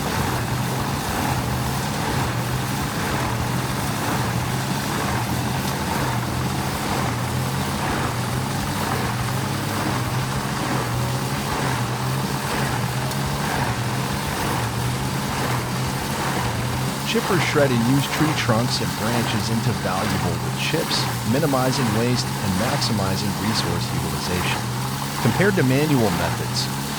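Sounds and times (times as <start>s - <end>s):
wood chipper running: 0.0s - 26.9s.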